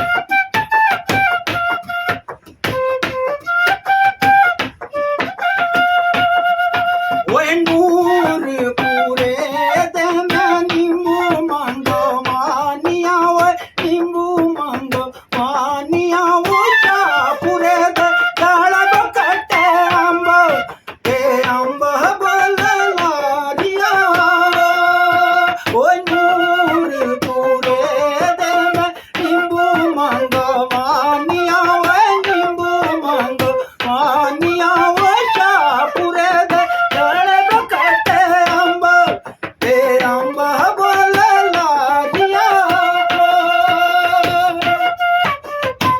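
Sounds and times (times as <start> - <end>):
folk melody with held notes: 0.0 - 45.9.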